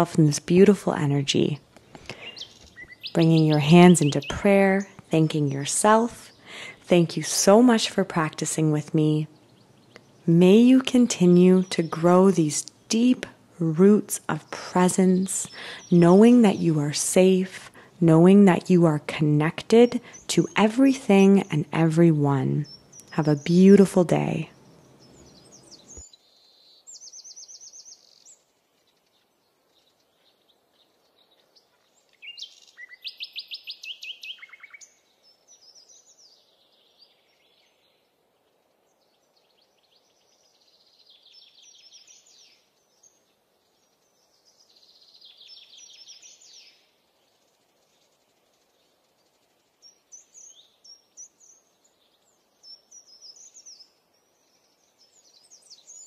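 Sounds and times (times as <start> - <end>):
birds singing trilled phrases: 0.0 - 56.0.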